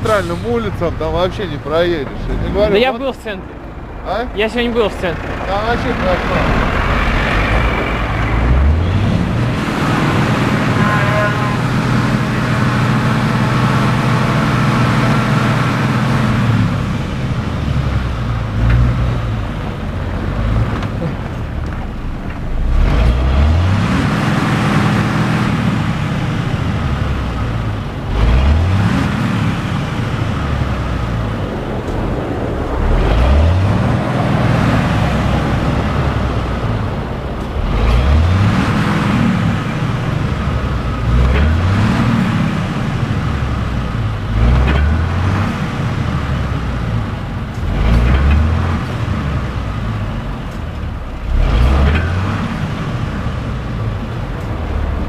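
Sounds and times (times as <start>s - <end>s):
car engine: 0.0s - 55.0s
road noise inside car: 0.0s - 55.0s.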